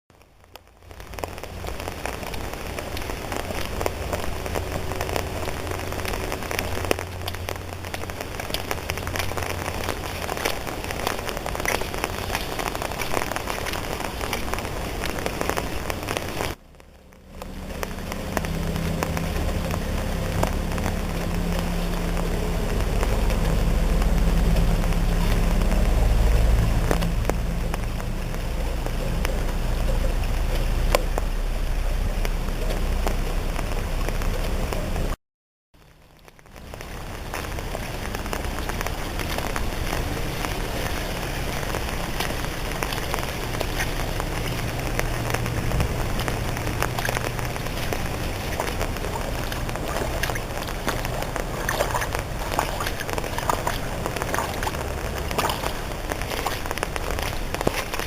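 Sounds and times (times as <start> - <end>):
water rushing and splashing: 0.1 - 35.2, 35.8 - 58.0
small drips and splashes: 0.2 - 35.2, 35.8 - 58.0.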